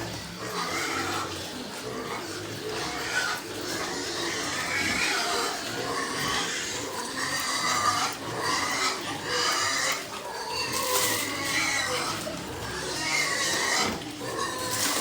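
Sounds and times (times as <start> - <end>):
pigs calling: 0.0 - 15.0.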